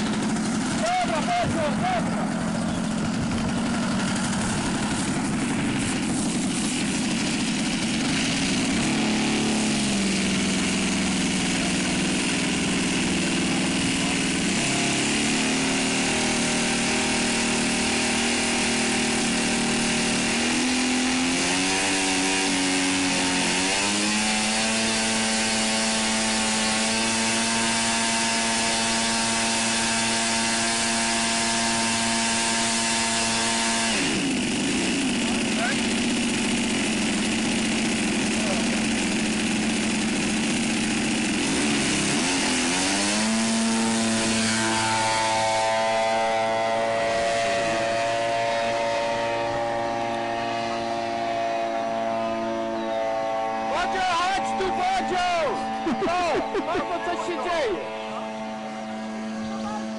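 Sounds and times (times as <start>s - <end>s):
model airplane engine revving: 0.0s - 59.9s.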